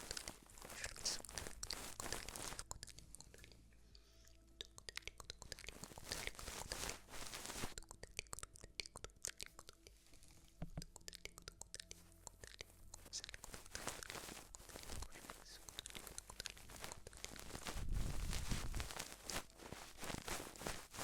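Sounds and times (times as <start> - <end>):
crinkling and crunching: 0.0 - 4.0, 4.6 - 21.0.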